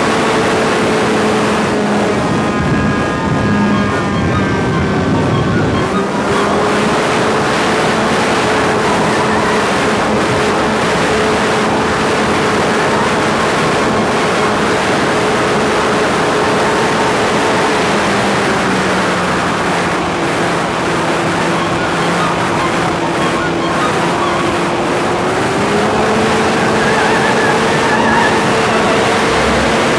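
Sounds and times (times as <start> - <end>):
wind rush over microphone: 0.0 - 29.9.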